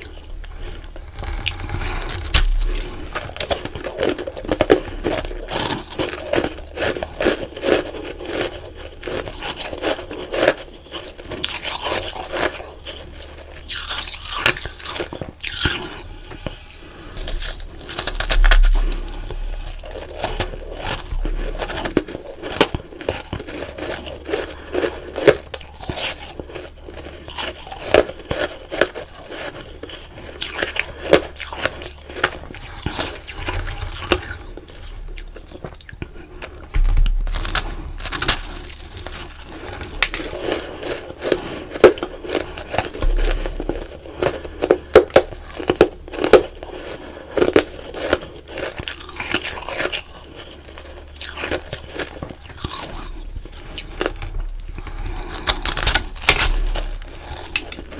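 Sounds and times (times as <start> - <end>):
crunching ice being chewed: 0.0 - 57.9.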